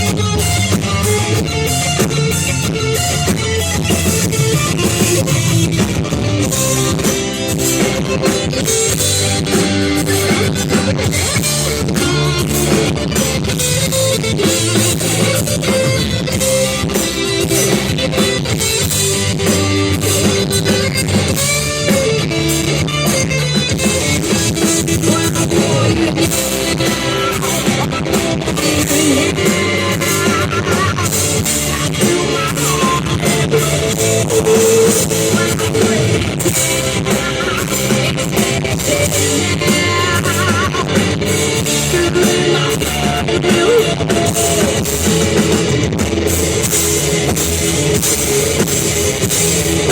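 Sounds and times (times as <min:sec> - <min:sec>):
drum kit: 0:00.0 - 0:49.9
guitar: 0:00.0 - 0:49.9
live rock band playing: 0:00.0 - 0:49.9.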